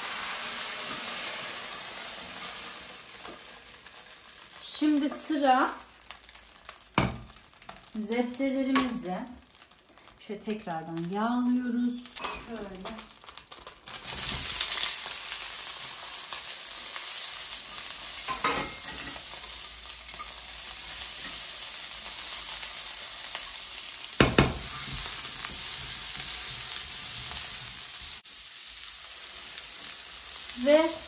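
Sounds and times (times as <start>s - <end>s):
vegetables sizzling in oil: 0.0s - 31.0s.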